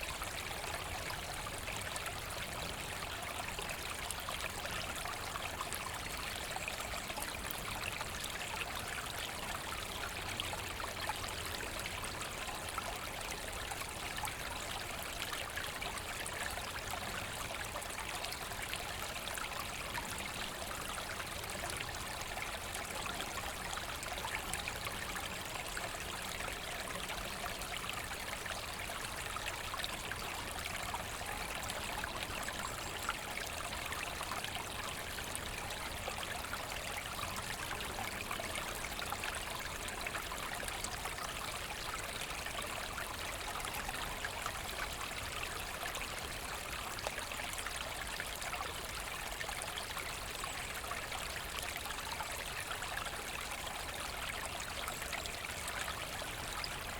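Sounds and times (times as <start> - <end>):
brook trickling over stones: 0.0 - 56.9.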